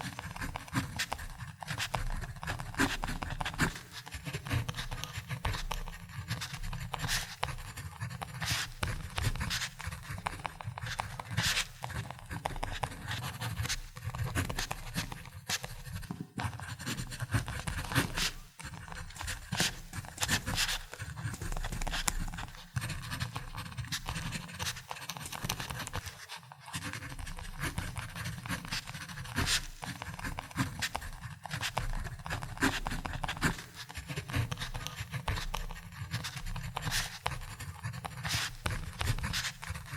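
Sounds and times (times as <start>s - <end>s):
ballpoint pen writing on paper: 0.0s - 39.9s.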